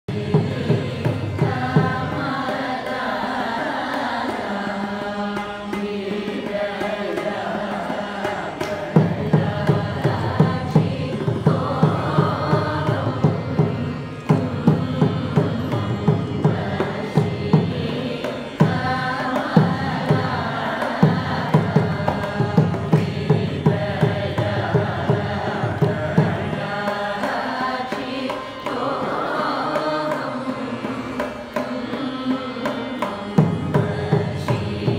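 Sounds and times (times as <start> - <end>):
group singing in unison: 0.1 - 34.9
mridangam drum strokes: 0.1 - 34.9
tambura drone: 0.1 - 34.9.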